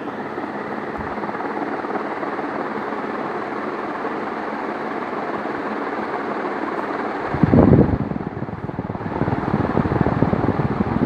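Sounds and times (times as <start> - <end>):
ceiling fan whooshing: 0.0 - 11.0.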